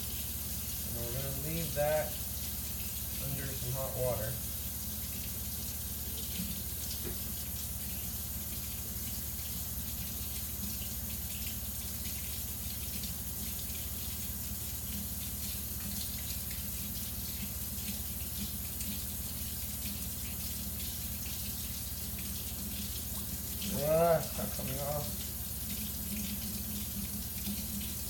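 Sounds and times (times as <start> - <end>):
tap water running into sink: 0.0 - 28.0.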